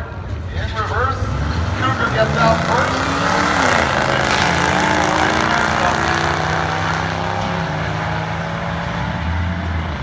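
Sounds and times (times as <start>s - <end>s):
drag racing engines accelerating: 0.0s - 10.0s.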